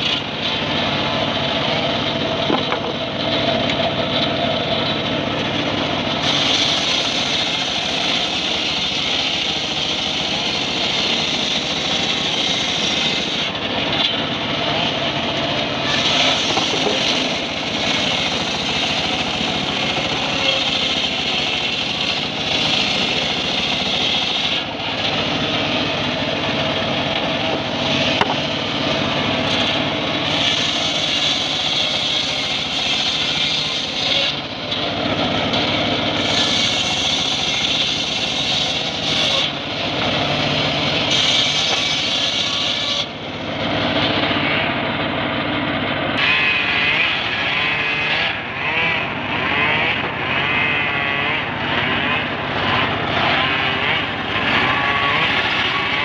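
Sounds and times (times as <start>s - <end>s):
circular saw cutting log: 0.0s - 56.0s.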